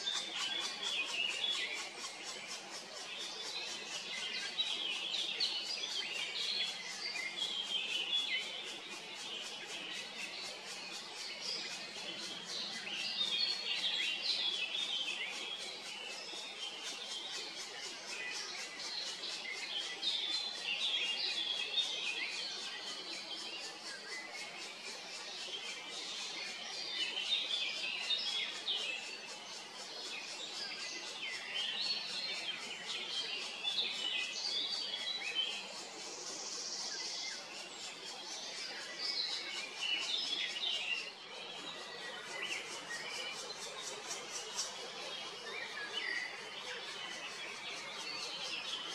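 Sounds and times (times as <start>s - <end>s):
birds chirping and singing: 0.0s - 48.9s.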